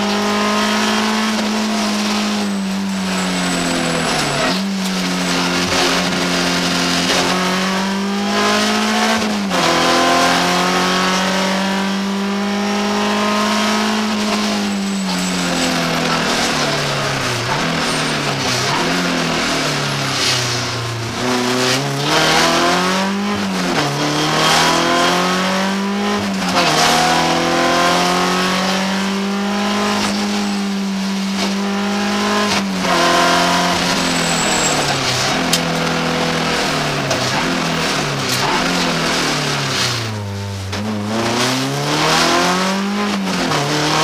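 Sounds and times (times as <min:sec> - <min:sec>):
car engine revving: 0:00.0 - 0:44.0.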